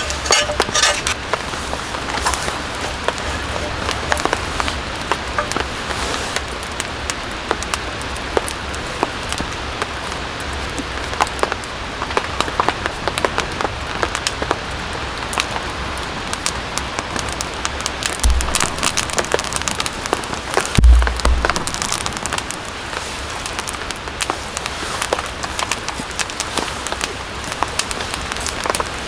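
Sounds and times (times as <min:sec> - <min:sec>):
rain drops tapping: 0:00.0 - 0:29.0.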